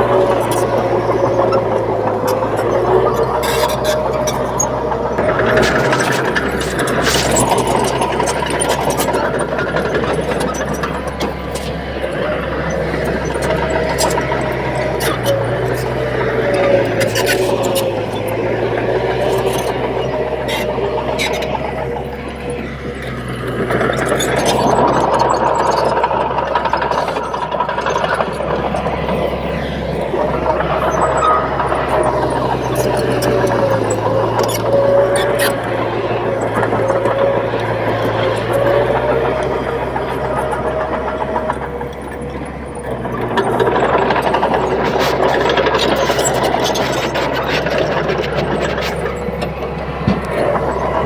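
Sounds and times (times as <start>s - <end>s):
bulldozer diesel engine drone: 0.0s - 51.0s.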